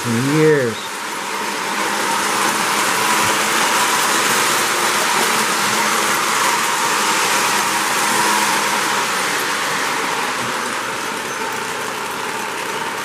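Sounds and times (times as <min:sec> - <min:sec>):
model train wheels on rail: 0:00.0 - 0:13.0.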